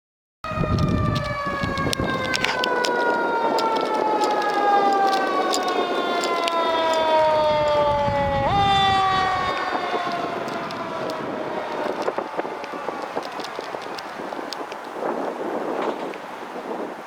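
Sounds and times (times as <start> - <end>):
emergency vehicle siren wailing: 0.4 - 16.8.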